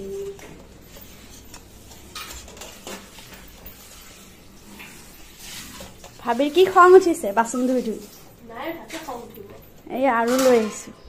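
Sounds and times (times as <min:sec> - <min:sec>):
metal pots clinking: 0:00.0 - 0:11.0.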